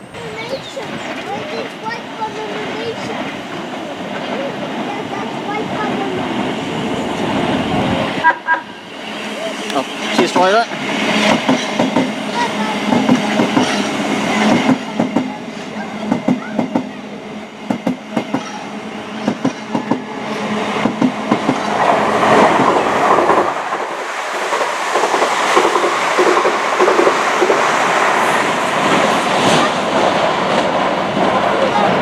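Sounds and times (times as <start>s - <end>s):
train wheels clicking on rails: 0.0s - 32.0s
train wheels running on rail: 0.0s - 32.0s.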